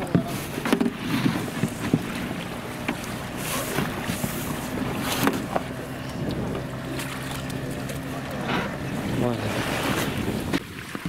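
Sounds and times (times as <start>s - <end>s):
low motor hum: 0.0s - 11.0s
sea water around boat: 0.0s - 11.0s
wind buffeting microphone: 0.0s - 11.0s.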